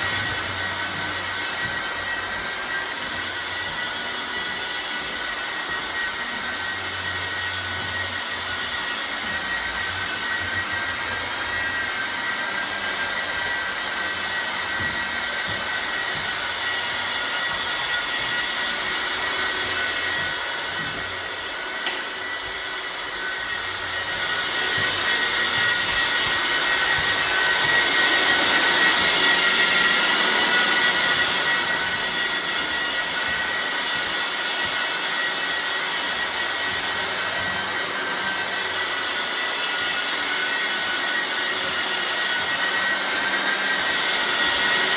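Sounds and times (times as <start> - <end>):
floor sanding machine whining: 0.0 - 44.9.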